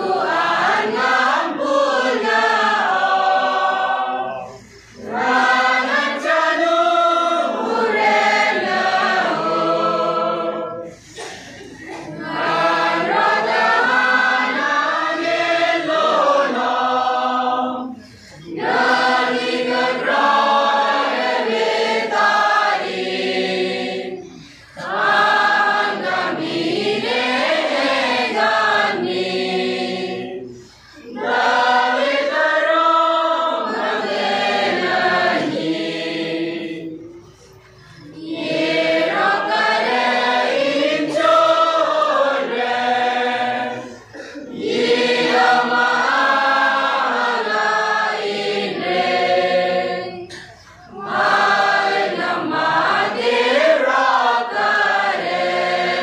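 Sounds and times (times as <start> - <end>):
mixed choir singing a carol: 0.0 - 56.0.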